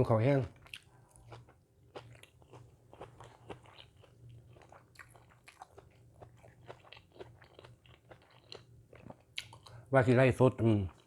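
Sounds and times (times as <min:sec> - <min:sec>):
person chewing crunchy food: 0:00.4 - 0:09.8.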